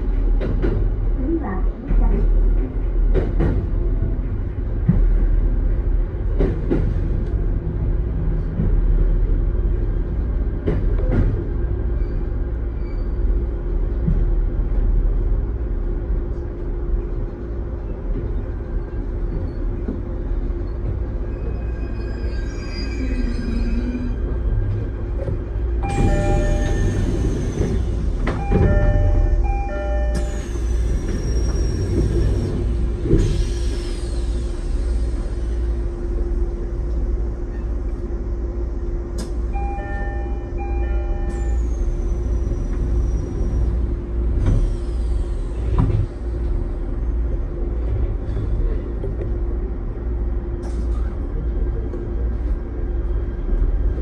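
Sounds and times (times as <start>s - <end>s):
train running rumble: 0.0s - 54.0s.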